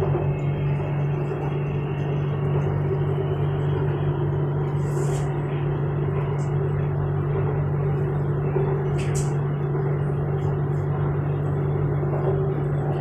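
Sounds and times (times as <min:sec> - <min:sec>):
electric train interior drone: 0:00.0 - 0:13.0.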